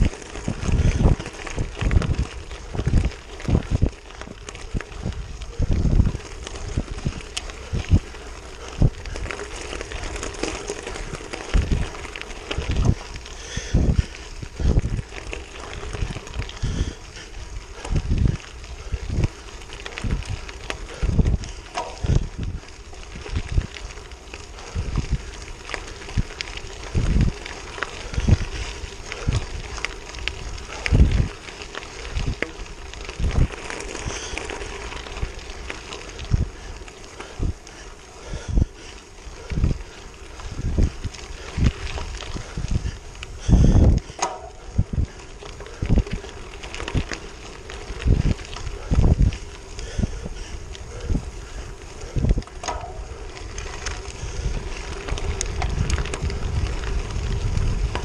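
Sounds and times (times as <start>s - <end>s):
wind rumble on microphone: 0.0s - 58.0s
tyres hissing on gravel: 0.1s - 58.0s.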